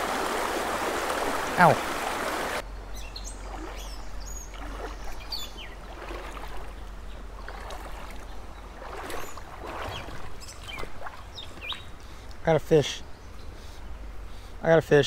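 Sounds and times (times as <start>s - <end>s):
creek water sloshing around legs: 0.0s - 12.5s
birds chirping: 0.0s - 15.0s.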